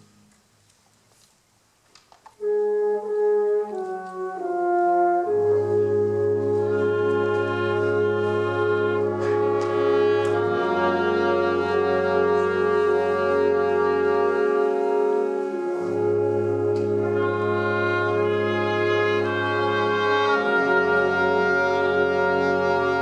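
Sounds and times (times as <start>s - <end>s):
wind ensemble playing chords: 2.4s - 23.0s.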